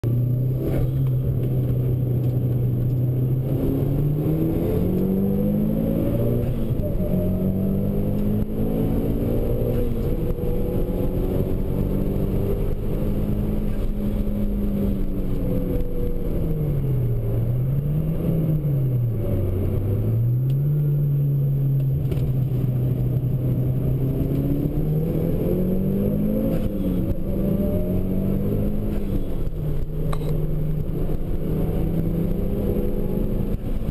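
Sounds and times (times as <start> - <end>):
car engine under hard driving: 0.0 - 33.9
road noise: 0.0 - 33.9.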